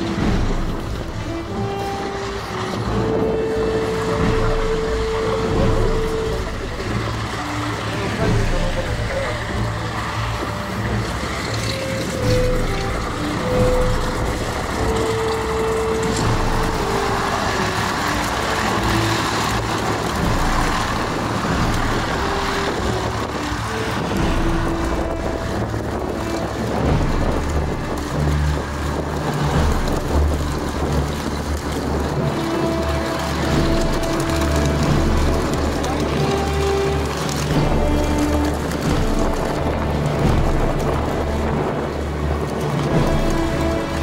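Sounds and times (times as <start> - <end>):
radial piston engines rumbling: 0.0 - 44.0.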